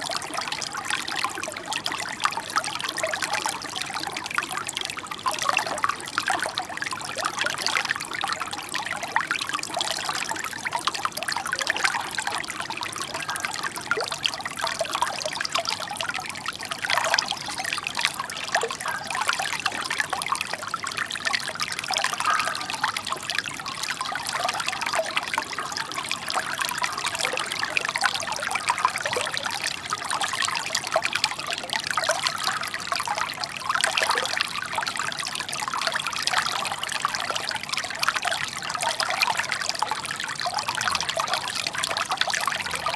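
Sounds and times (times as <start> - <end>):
brook babbling over stones: 0.0 - 42.9.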